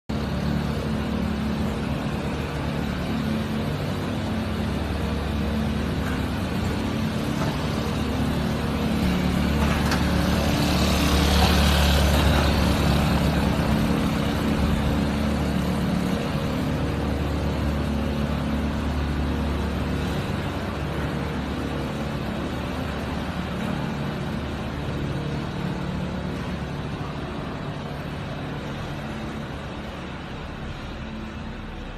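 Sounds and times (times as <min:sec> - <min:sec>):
large fan motor running: 0:00.1 - 0:31.9.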